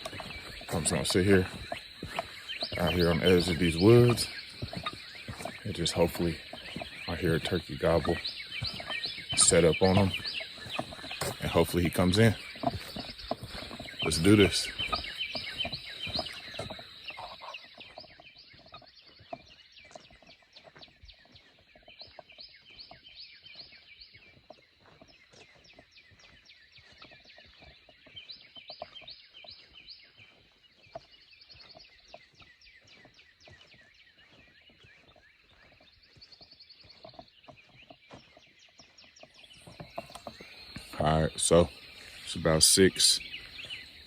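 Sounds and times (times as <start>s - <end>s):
songbirds chirping and trilling: 0.0s - 44.0s.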